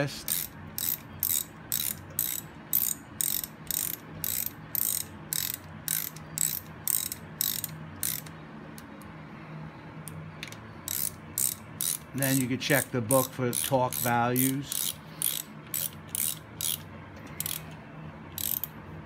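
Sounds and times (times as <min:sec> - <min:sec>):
hand ratchet clicking: 0:00.1 - 0:08.3, 0:10.4 - 0:17.7, 0:18.3 - 0:18.7.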